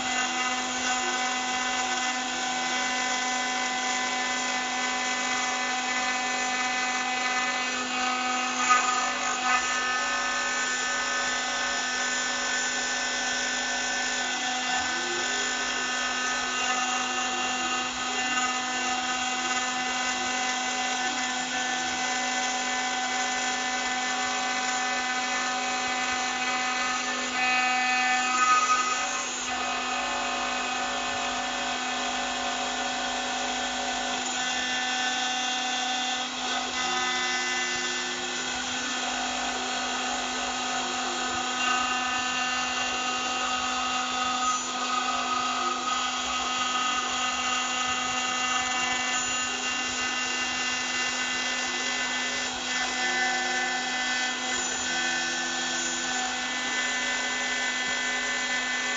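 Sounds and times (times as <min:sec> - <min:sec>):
bit cutting metal: 0:00.0 - 0:58.9
engraving spindle whining: 0:00.0 - 0:58.9.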